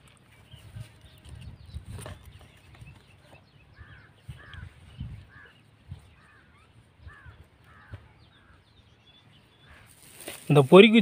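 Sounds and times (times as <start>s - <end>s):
bird calling: 0.6s - 11.0s.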